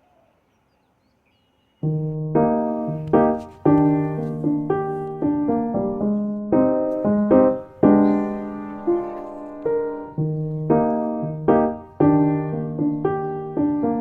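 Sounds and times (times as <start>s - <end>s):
gentle piano music: 1.8s - 14.0s.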